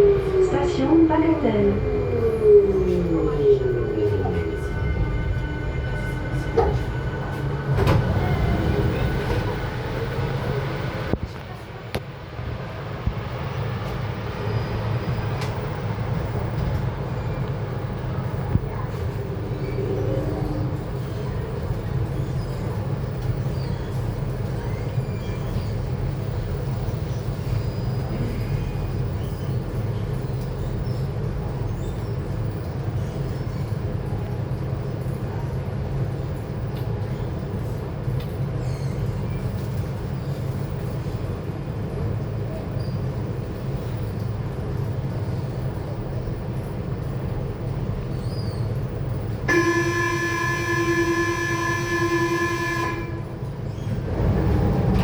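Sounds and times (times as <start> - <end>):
train interior rumble: 0.0 - 55.0.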